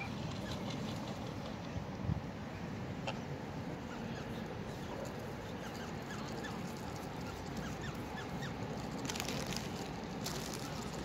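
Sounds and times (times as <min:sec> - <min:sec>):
waterbirds chirping: 0:00.0 - 0:11.0.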